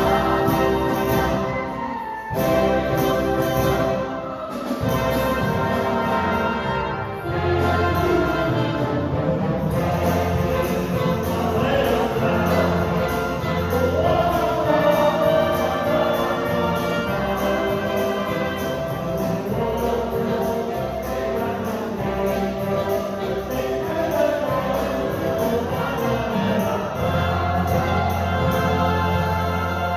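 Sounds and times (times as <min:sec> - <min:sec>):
choir singing gospel: 0:00.0 - 0:29.9
orchestra accompanying: 0:00.0 - 0:29.9.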